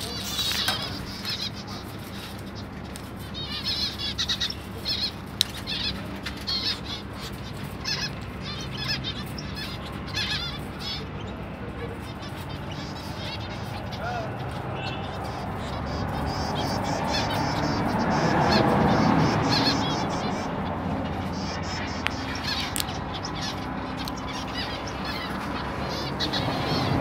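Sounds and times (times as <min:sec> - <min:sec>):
finches chirping: 0:00.0 - 0:27.0.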